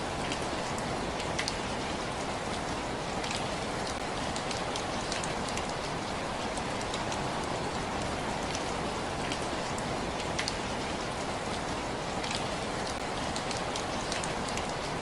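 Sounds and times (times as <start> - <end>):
steady rain hiss: 0.0 - 15.0
raindrops ticking on hard surface: 0.1 - 15.0.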